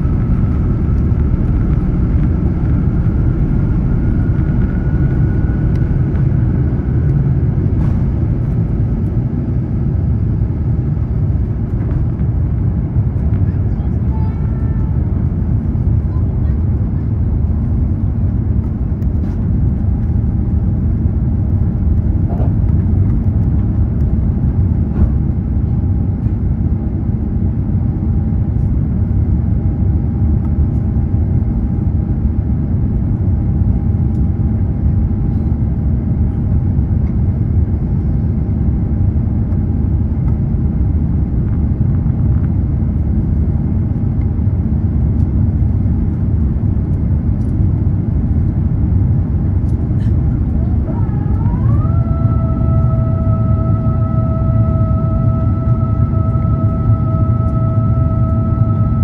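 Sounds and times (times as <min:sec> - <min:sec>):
faint steady hum: 0:00.0 - 0:26.4, 0:33.6 - 0:59.0
low rumble of engines and airflow: 0:00.0 - 0:59.0.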